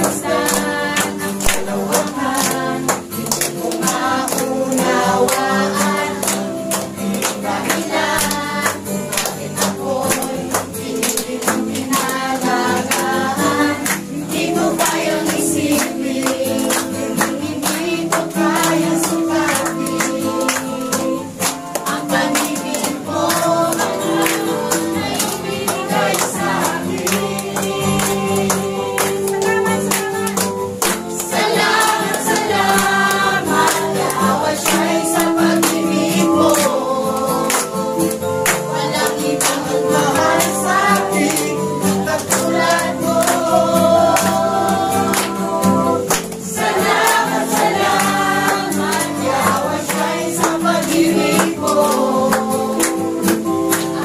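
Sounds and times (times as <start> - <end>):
congregation singing worship song: 0.0 - 54.0
hands clapping: 0.0 - 54.0
instrumental accompaniment with beat: 0.0 - 54.0.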